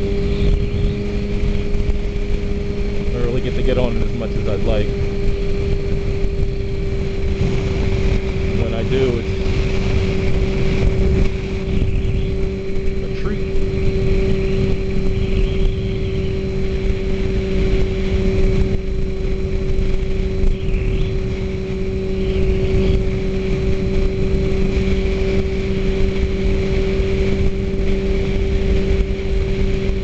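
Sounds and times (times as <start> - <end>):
motorcycle engine humming: 0.0 - 30.0
wind noise on microphone: 0.0 - 30.0.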